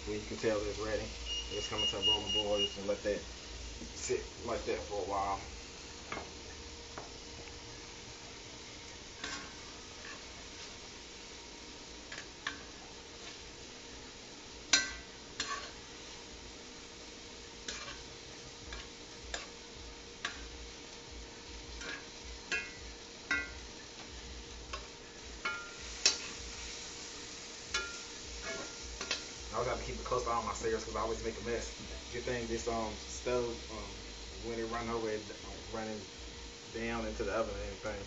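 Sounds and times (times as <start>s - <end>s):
sugar syrup boiling: 0.0s - 38.0s.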